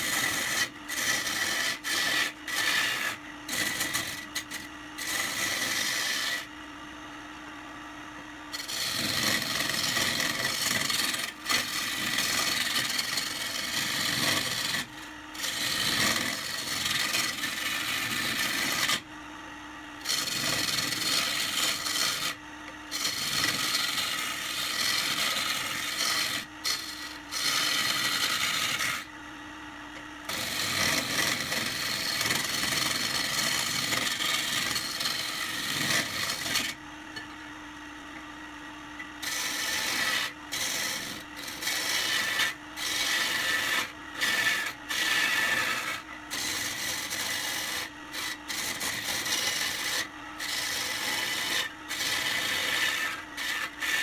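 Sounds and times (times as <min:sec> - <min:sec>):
lathe tool scraping wood: 0:00.0 - 0:06.5, 0:08.5 - 0:19.1, 0:20.0 - 0:29.1, 0:30.2 - 0:36.8, 0:39.2 - 0:54.0
lathe hum: 0:00.0 - 0:54.0.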